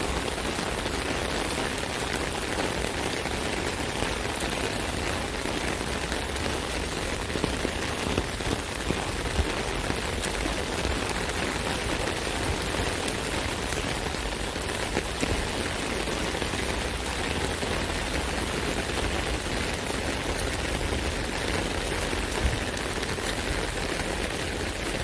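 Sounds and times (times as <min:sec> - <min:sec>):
rain on an umbrella: 0:00.0 - 0:25.0.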